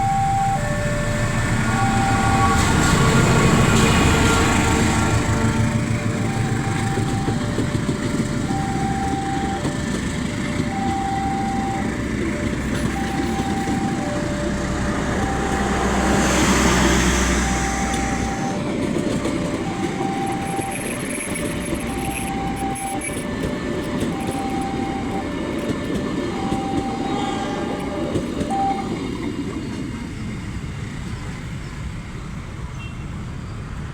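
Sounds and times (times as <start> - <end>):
two-tone warning alarm beeps: 0.0 - 29.2
train rumbling past: 0.0 - 33.9.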